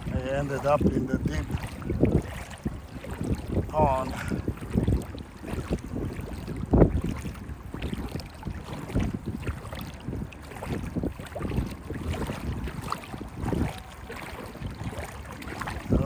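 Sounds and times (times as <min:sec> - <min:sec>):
footsteps wading through water: 0:00.0 - 0:16.0
wind buffeting microphone: 0:00.0 - 0:16.0.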